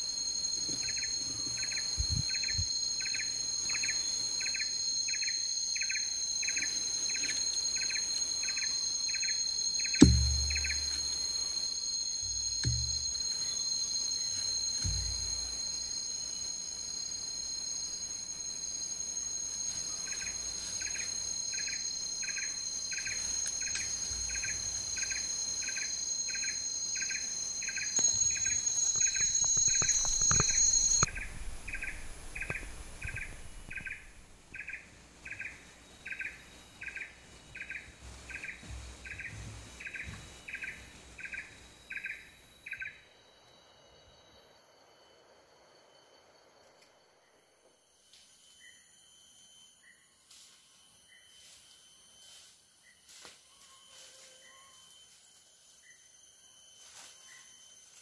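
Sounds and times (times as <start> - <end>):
insect chirping: 0.0 - 58.0
insect high-pitched drone: 0.0 - 58.0.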